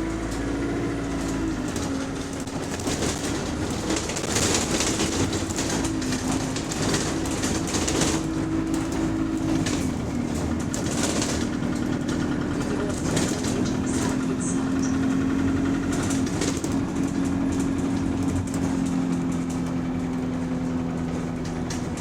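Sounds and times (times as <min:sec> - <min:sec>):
bus engine running: 0:00.0 - 0:22.0
rattling and clattering: 0:00.2 - 0:22.0.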